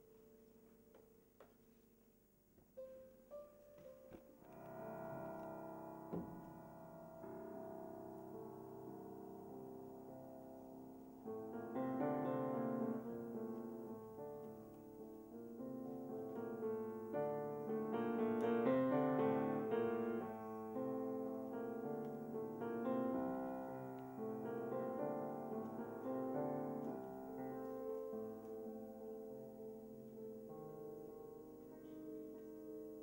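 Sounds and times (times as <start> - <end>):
grand piano chords: 2.6 - 33.0.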